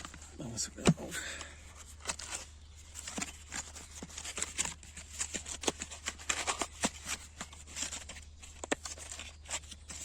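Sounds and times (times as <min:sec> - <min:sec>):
package crinkling: 0:01.8 - 0:10.0.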